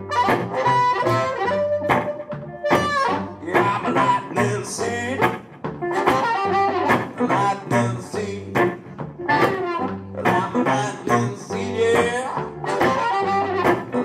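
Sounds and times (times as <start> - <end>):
blues harmonica: 0.0 - 14.0
guitar: 0.0 - 14.0.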